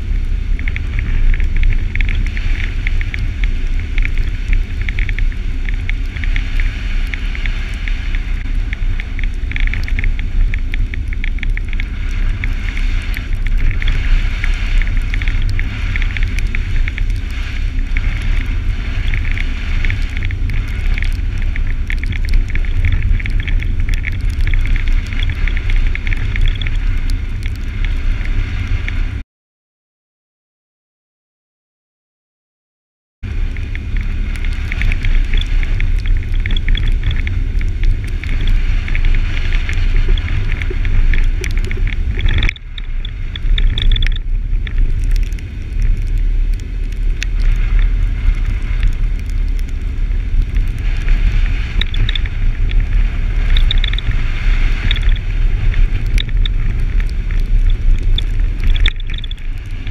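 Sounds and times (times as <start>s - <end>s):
wind and road rumble: 0.0s - 29.2s, 33.2s - 59.9s.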